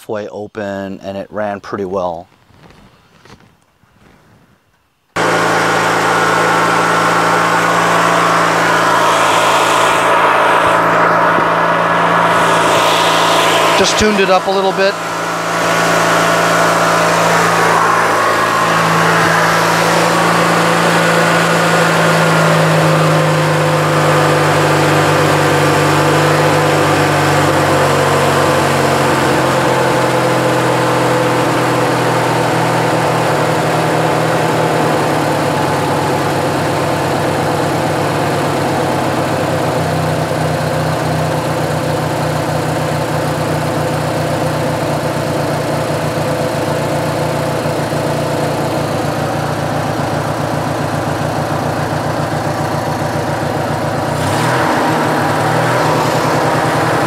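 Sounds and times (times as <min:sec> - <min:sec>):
lawn tractor engine running: 0:05.2 - 0:57.0.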